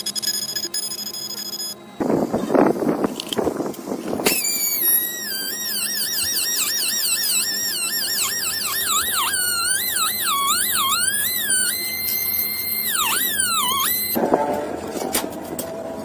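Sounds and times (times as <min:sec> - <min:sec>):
rotary tool whining: 0:00.0 - 0:14.2.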